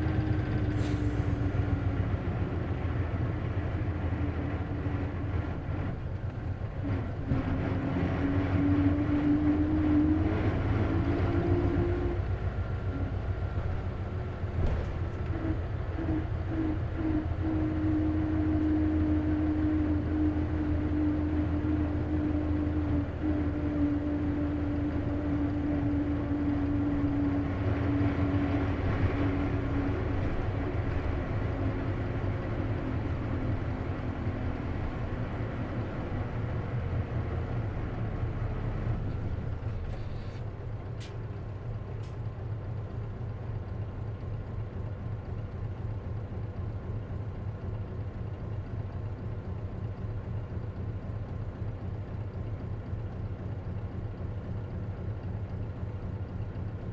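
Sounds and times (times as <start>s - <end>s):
bus engine whine: 0.0s - 56.9s
engine rumble: 0.0s - 56.9s.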